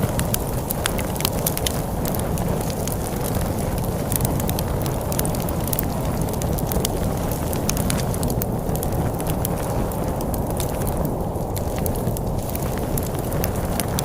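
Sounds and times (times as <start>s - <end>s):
storm wind rumbling: 0.0s - 14.0s
wood fire crackling: 0.0s - 14.0s.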